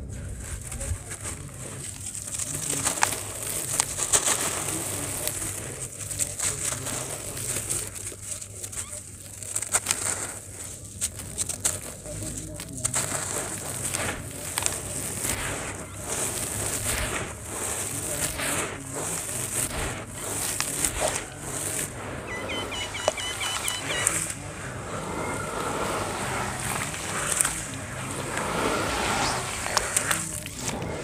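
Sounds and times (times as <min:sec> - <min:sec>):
wet sand squeezed in water: 0:00.0 - 0:31.0.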